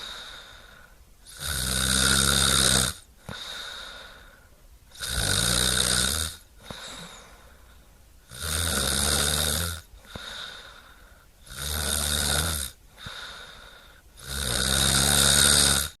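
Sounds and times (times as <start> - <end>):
quiet breathing: 0.0 - 2.1, 2.8 - 12.1, 12.7 - 15.0
person snoring: 0.0 - 16.0.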